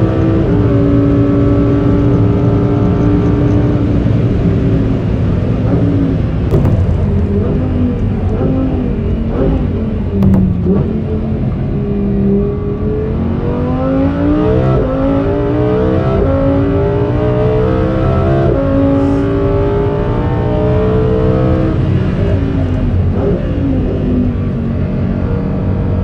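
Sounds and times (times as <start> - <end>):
car engine accelerating through gears: 0.0 - 26.0.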